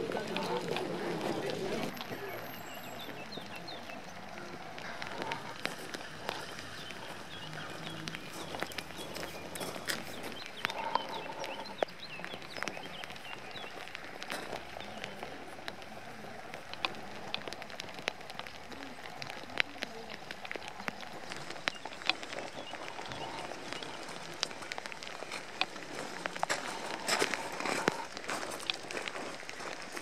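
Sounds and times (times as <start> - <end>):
light rain hissing: 0.0 - 30.0
sharp ticks of raindrops: 0.0 - 30.0.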